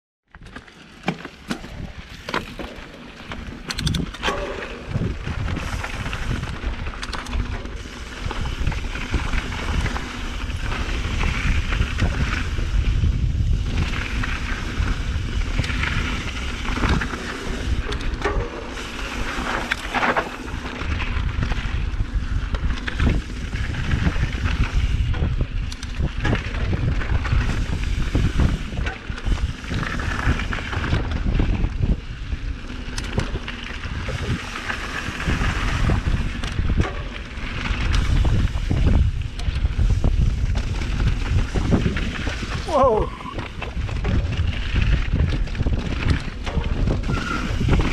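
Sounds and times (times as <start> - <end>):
bike knocks and rattles: 0.3 - 47.9
tyres rolling over dirt and stones: 0.3 - 47.9
wind buffeting microphone: 1.6 - 47.9.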